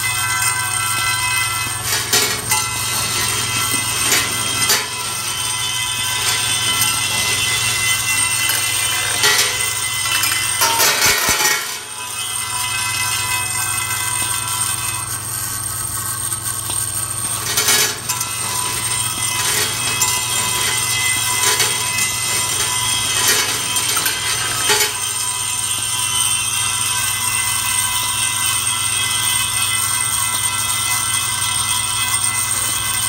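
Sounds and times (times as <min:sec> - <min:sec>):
machine humming: 0:00.0 - 0:33.0.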